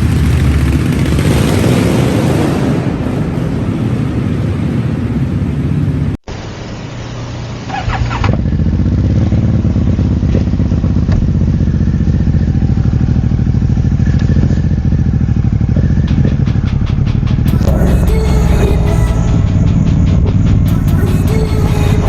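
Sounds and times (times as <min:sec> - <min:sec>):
motorcycle engine rumbling: 0:00.0 - 0:06.1, 0:07.8 - 0:22.0.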